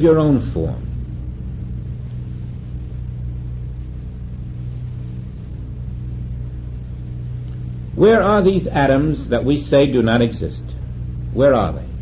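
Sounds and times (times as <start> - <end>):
faint hiss: 0.0 - 12.0
low electrical hum: 0.0 - 12.0.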